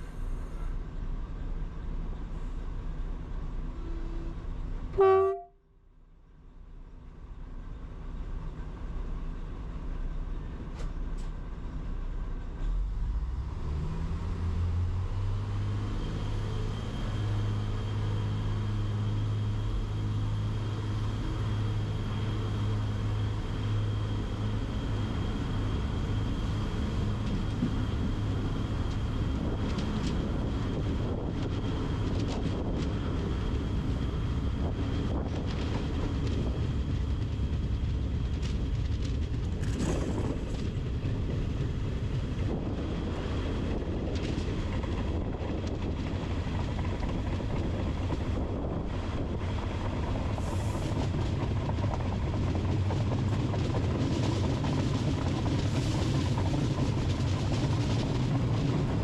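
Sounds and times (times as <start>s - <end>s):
locomotive humming and whining: 0.0s - 59.0s.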